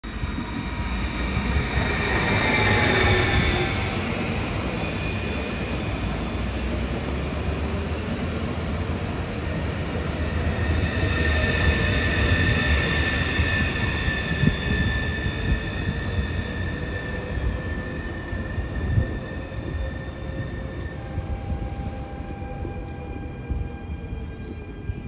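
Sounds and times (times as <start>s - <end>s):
high train whine: 0.0s - 25.0s.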